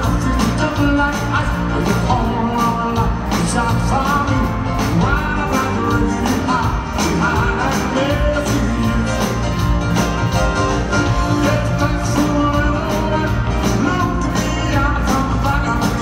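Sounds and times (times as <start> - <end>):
person singing: 0.0 - 9.8, 11.0 - 16.0
grand piano: 0.0 - 16.0
live rock band: 0.0 - 16.0
steady drum beat: 0.0 - 16.0.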